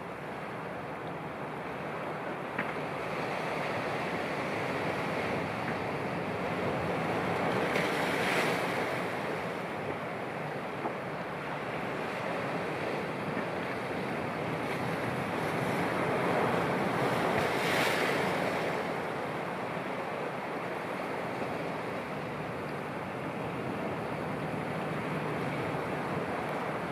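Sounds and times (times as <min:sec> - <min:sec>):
sea waves washing: 0:00.0 - 0:26.9.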